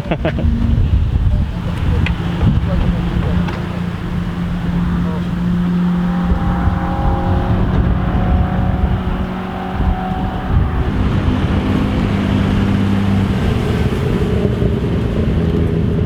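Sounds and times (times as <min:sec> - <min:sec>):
low rumble: 0:00.0 - 0:14.2
car engines running: 0:00.0 - 0:16.0.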